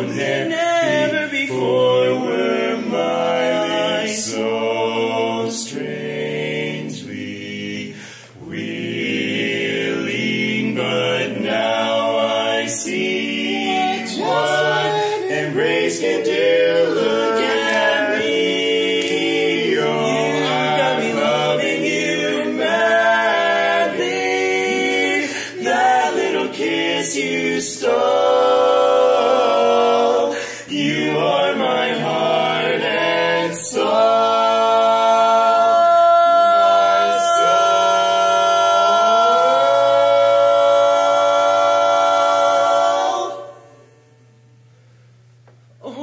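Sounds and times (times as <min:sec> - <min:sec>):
barbershop quartet singing: 0:00.0 - 0:44.0.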